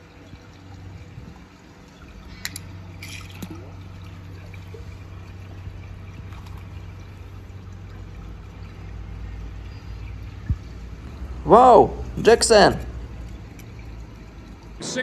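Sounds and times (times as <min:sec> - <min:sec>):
low hum: 0:00.0 - 0:15.0
water trickling and pouring: 0:00.0 - 0:15.0.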